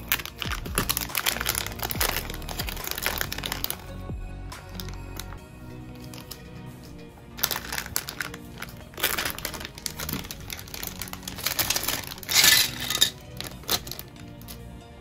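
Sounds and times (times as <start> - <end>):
plastic bag crinkling: 0.0 - 3.9, 4.6 - 5.4, 6.0 - 6.4, 7.4 - 14.5
background music: 0.0 - 15.0.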